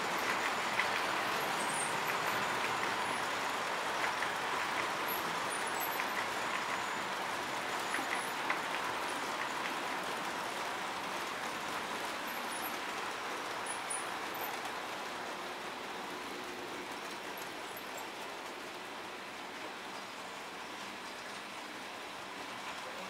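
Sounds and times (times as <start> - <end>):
model train wheels and motors whirring: 0.0 - 23.0.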